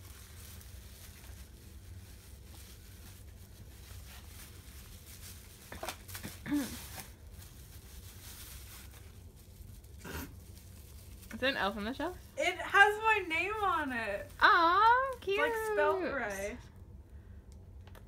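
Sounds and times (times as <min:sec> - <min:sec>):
plastic wrapping crinkling: 0:00.0 - 0:16.6
steady low hum: 0:00.0 - 0:18.0.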